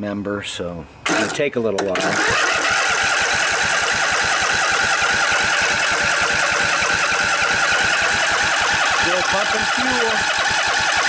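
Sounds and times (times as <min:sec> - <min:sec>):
electric starter cranking mower engine: 0:01.0 - 0:11.0.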